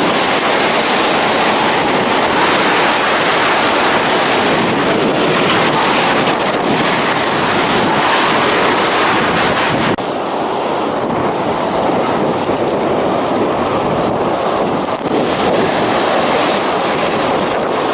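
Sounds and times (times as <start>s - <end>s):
strong wind buffeting microphone: 0.0s - 17.9s.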